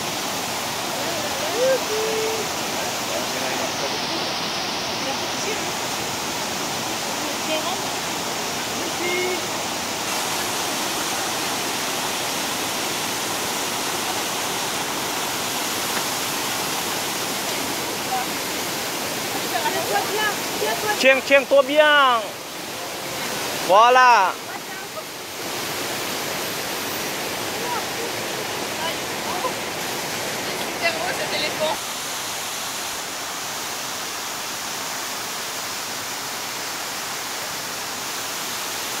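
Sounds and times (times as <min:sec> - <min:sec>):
river rushing over rapids: 0:00.0 - 0:39.0.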